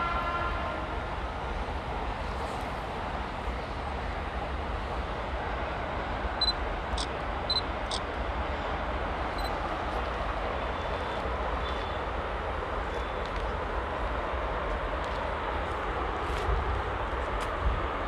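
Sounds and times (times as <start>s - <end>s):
distant freight train rumble: 0.0s - 18.0s.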